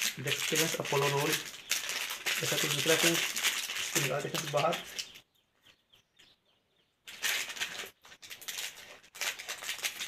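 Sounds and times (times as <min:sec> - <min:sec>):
plastic wrapper crinkling: 0:00.0 - 0:05.2, 0:07.0 - 0:10.0.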